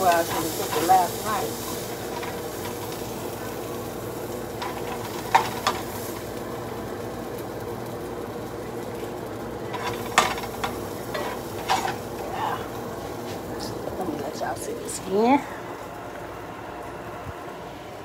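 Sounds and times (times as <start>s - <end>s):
food sizzling: 0.0s - 18.0s.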